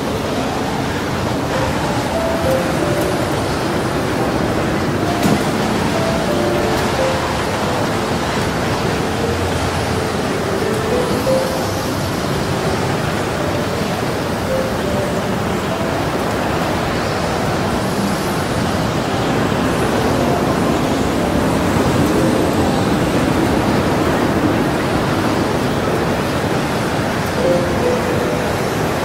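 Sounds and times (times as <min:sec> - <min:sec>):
choppy waves: 0:00.0 - 0:29.0.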